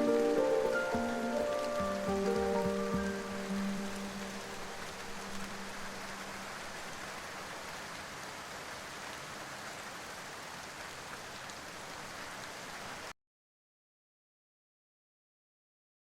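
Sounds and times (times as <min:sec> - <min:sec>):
steady rain: 0:00.0 - 0:13.2.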